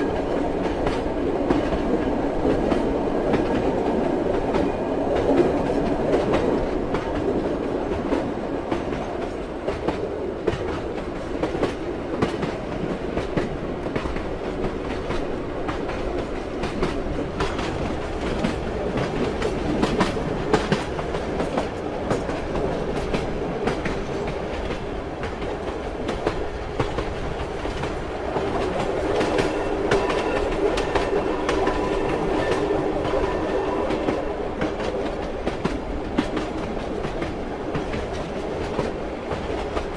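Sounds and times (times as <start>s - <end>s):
rolling rumble of train carriage: 0.0s - 39.9s
train wheels clacking over rail joints: 0.0s - 39.9s.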